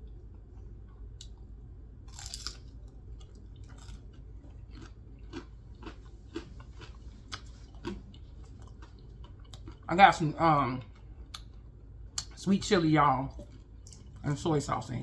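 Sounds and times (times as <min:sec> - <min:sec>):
person chewing food: 0:00.0 - 0:09.9, 0:10.7 - 0:12.4, 0:13.3 - 0:14.3.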